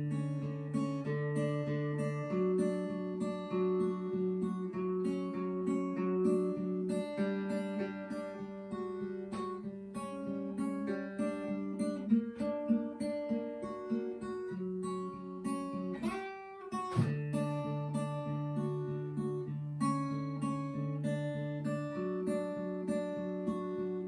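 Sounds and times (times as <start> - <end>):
acoustic guitar picking melody: 0.0 - 24.0.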